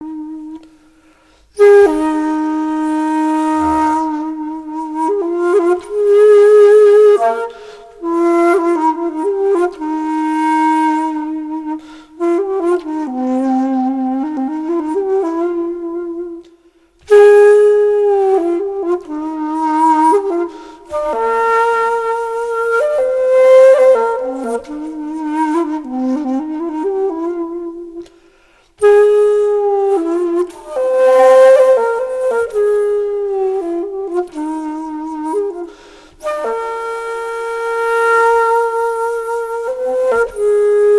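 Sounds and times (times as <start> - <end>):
solo flute slow melody: 0.0 - 40.9.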